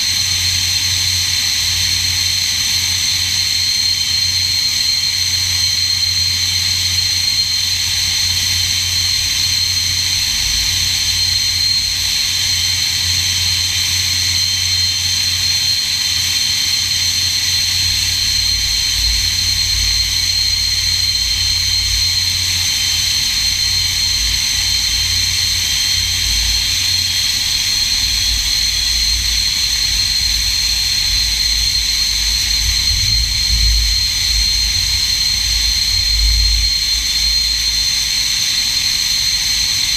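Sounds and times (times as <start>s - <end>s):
jet engine low rumble: 0.0s - 39.9s
jet engine turbine whine: 0.0s - 39.9s.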